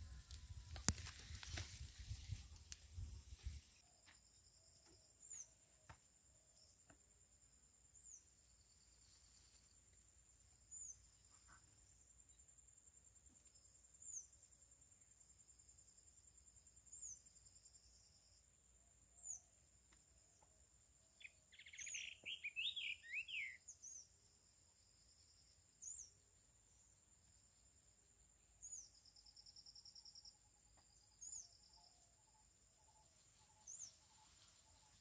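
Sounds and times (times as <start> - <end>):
bird song: 3.4 - 7.0, 7.9 - 35.0.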